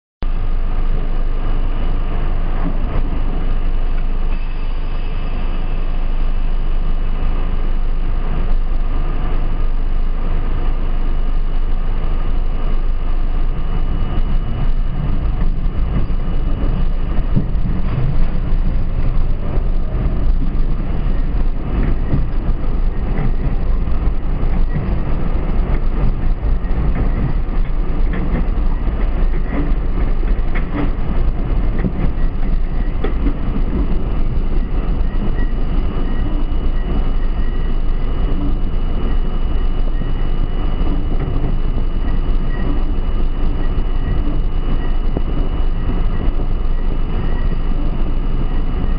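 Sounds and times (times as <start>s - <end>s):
subway train rumbling: 0.2s - 48.9s
rail clicks: 2.1s - 48.9s.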